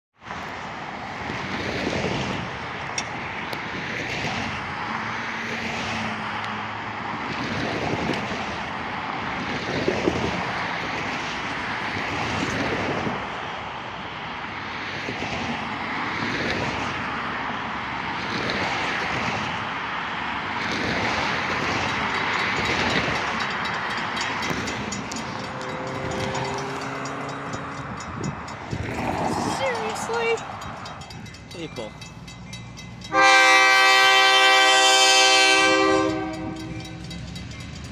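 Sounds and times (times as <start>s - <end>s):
diesel locomotive engine drone: 0.2s - 37.9s.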